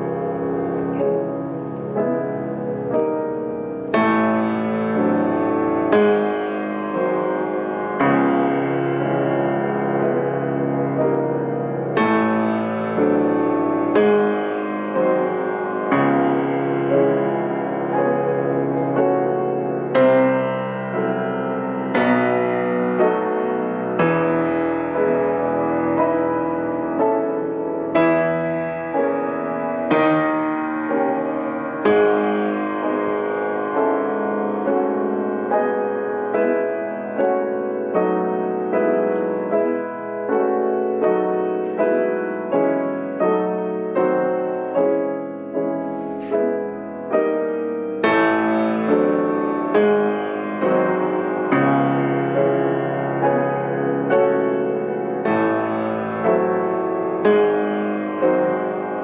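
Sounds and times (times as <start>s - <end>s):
background piano music: 0.0s - 59.0s.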